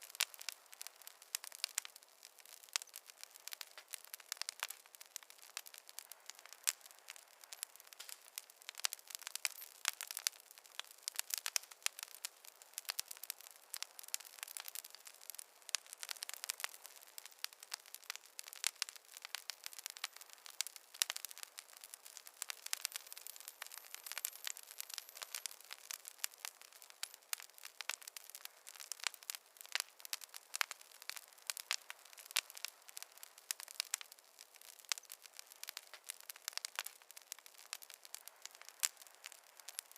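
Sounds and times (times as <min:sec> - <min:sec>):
faint hiss: 0:00.0 - 0:39.9
wood fire crackling: 0:00.0 - 0:39.9.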